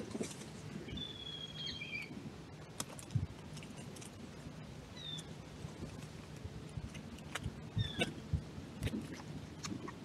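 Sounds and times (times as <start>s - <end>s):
pigeons pecking in dry leaves: 0.0s - 10.0s.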